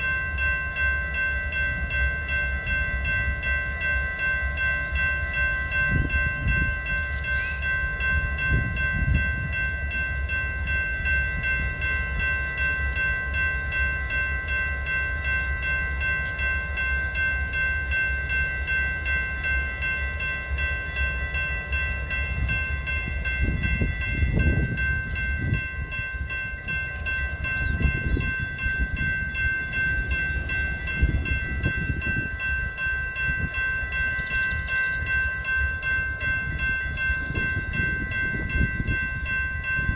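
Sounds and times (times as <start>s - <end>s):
train rumbling by: 0.0s - 39.9s.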